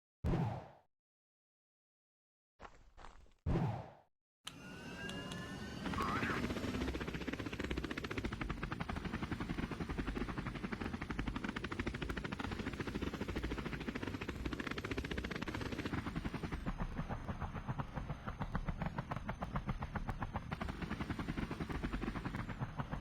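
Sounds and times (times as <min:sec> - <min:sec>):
aircraft engine and propeller pulsing: 0:04.5 - 0:23.0.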